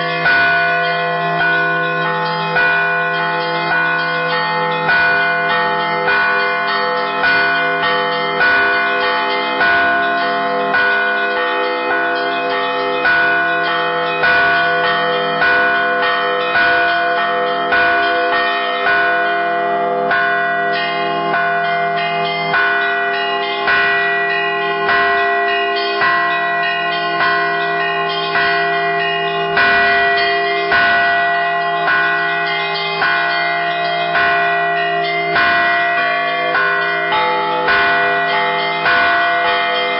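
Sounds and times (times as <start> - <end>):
higher bells chiming quickly: 0.0 - 39.9
low bells humming: 0.0 - 39.9.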